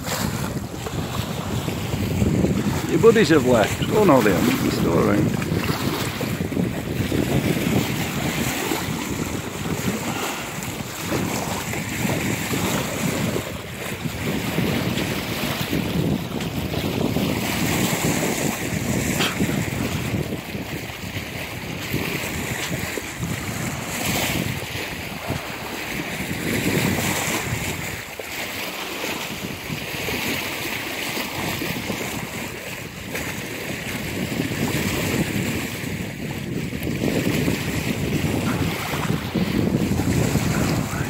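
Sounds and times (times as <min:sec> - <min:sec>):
water washing along hull: 0:00.0 - 0:41.0
wind buffeting microphone: 0:00.0 - 0:41.0.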